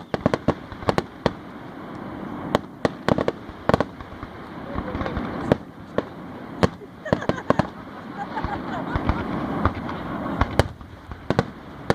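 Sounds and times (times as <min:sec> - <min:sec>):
fireworks bangs: 0:00.0 - 0:11.9.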